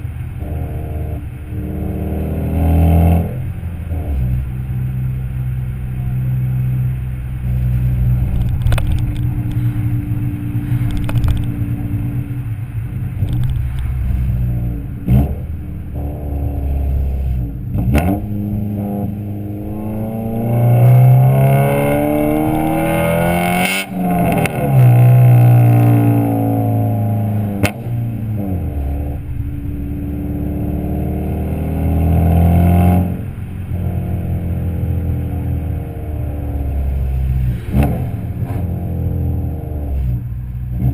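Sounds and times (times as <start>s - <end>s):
car exhaust revving: 0.0s - 40.9s.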